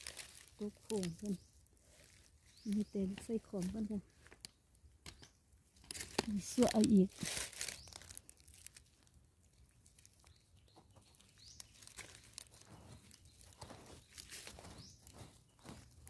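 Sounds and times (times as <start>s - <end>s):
dry soil scraped and dug: 0.0s - 4.5s, 5.2s - 9.1s, 9.8s - 16.0s.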